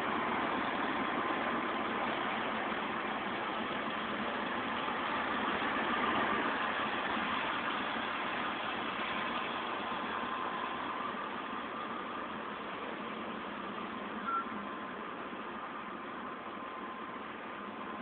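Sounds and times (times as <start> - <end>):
road traffic noise: 0.0 - 18.0
vehicle engine: 0.0 - 18.0.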